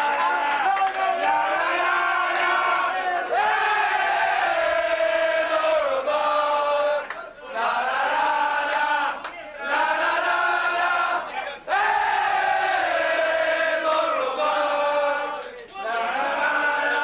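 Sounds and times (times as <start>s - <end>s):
men chanting in unison: 0.1s - 17.0s.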